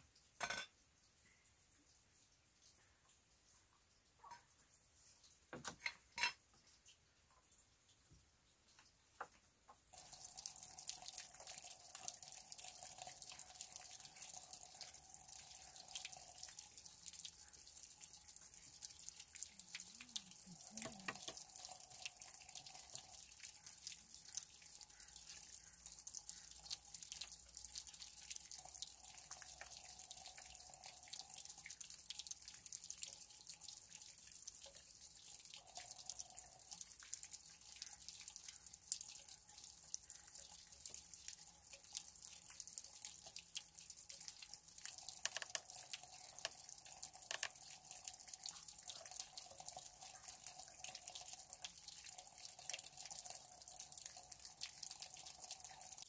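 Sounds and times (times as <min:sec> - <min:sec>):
water trickling and dripping: 0:00.0 - 0:56.0.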